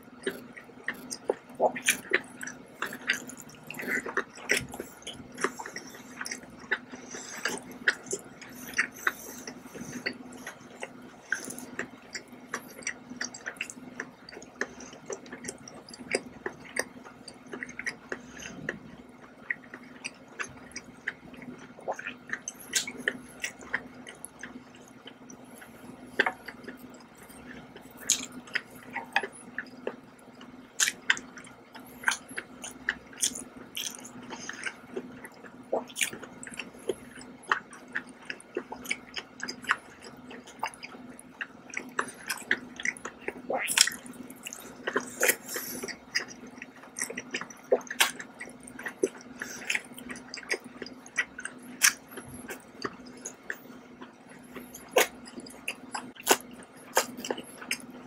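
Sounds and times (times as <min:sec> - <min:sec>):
faint steady hum: 0:00.0 - 0:58.0
mouth chewing with smacks: 0:00.1 - 0:58.0.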